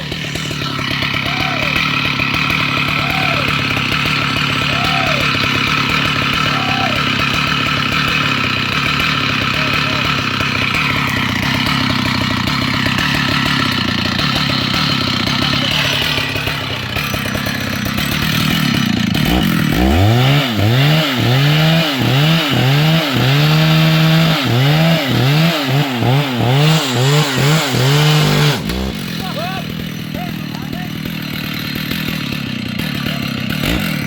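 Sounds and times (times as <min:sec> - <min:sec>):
chainsaw running and revving: 0:00.0 - 0:34.0.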